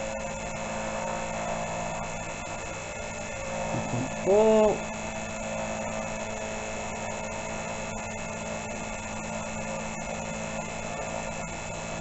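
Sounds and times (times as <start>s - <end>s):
milling machine motor hum: 0.0s - 12.0s.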